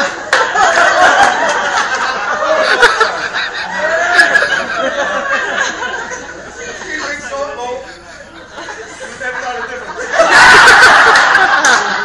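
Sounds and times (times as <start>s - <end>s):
crowd laughing: 0.0s - 12.0s.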